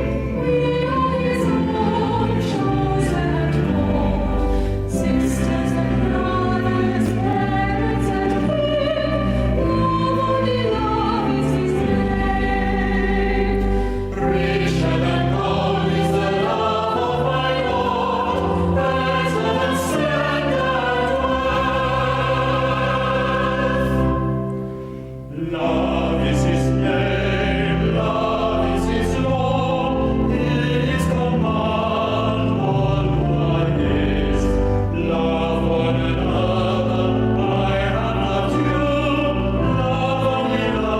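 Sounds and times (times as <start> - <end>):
choir singing sacred music: 0.0 - 40.9.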